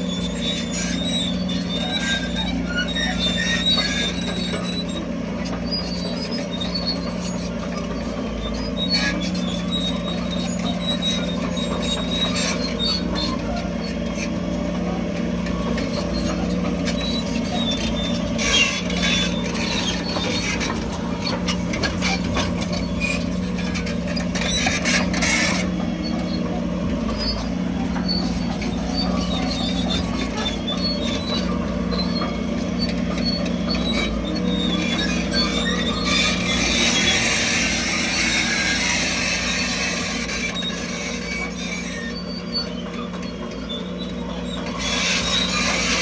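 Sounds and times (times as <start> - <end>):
diesel engine running: 0.0 - 46.0
metallic squeaks and clanks: 0.0 - 46.0.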